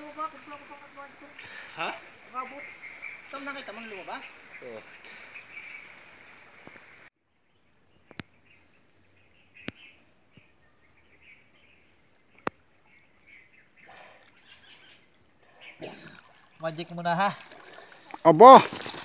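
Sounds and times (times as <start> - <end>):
birds chirping: 0.0 - 19.0
insects chirping: 0.0 - 19.0.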